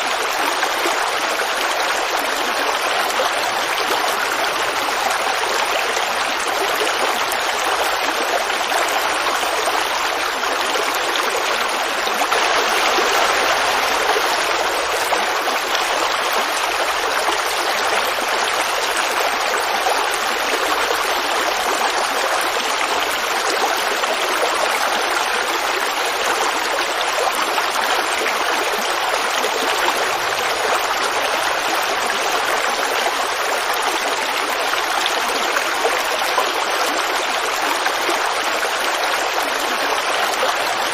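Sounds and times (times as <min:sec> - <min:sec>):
creek babbling over rocks: 0:00.0 - 0:40.9.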